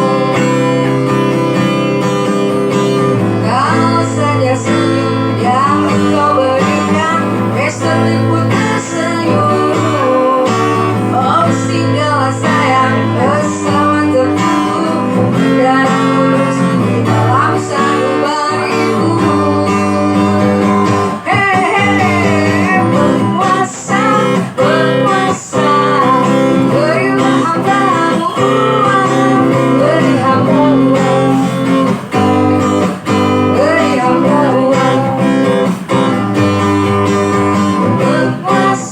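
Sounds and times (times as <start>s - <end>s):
guitar music: 0.0s - 38.9s.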